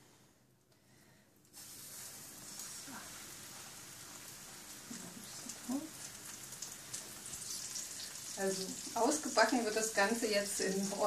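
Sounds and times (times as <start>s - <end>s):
mushroom sizzling in hot fat: 1.5s - 11.0s.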